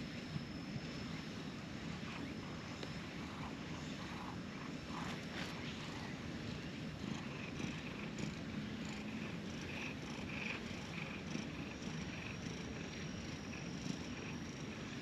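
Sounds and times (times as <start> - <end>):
cat purring: 2.0 - 15.0.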